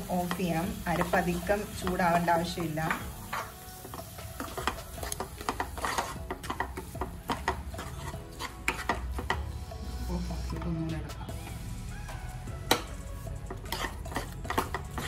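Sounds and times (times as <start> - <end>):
spatula scraping frying pan: 0.0 - 10.8, 12.7 - 15.0.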